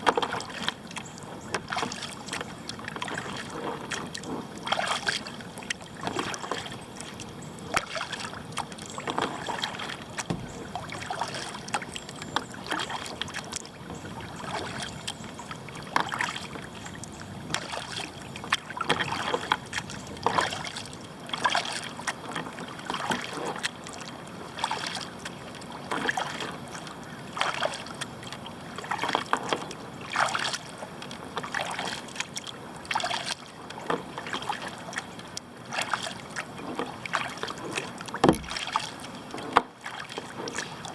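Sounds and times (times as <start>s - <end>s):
kayak paddle splashing: 0.0s - 40.9s.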